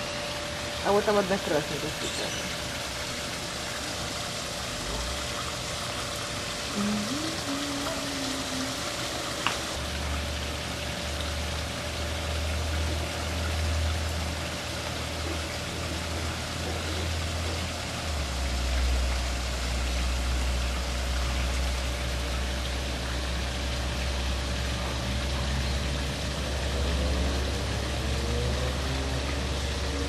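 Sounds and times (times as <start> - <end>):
running water splashing: 0.4 - 30.0.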